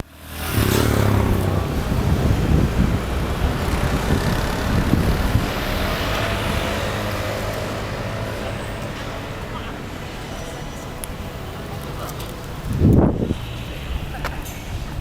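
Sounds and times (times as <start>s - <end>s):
low engine rumble: 0.0s - 15.0s
traffic noise: 0.0s - 15.0s.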